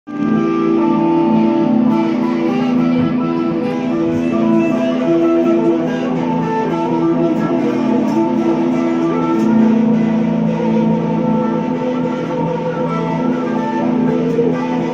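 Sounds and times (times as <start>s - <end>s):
blues guitar playing: 0.1s - 14.9s.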